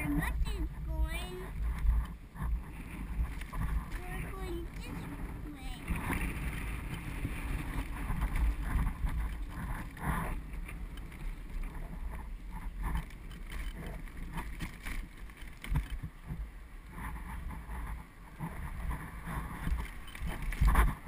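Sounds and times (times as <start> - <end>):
road rumble: 0.0 - 21.0
wind buffeting: 0.0 - 21.0.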